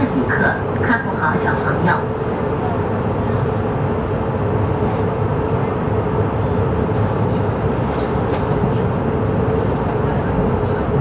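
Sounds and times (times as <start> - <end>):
constant hum: 0.0 - 11.0
train interior low rumble: 0.0 - 11.0.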